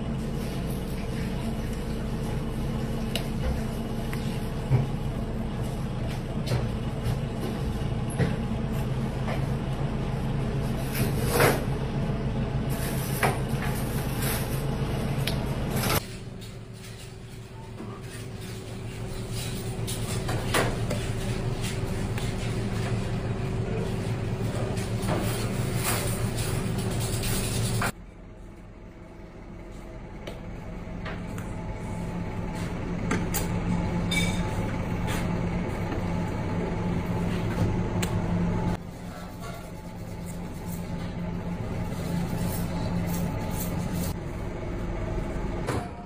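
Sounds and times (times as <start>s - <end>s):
kitchen machinery hum: 0.0s - 46.0s.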